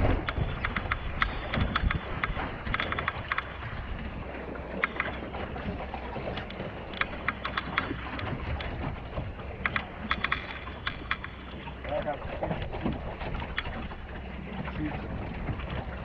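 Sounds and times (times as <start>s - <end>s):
water splashing and slapping: 0.0s - 16.0s
wind and water rushing: 0.0s - 16.0s
wind buffeting microphone: 0.0s - 16.0s.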